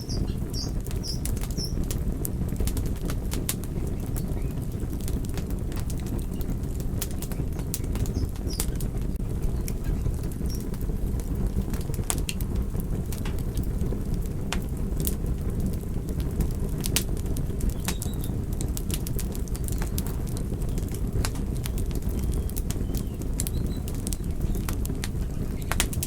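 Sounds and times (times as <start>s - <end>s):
fire burning with crackles and pops: 0.0s - 26.0s.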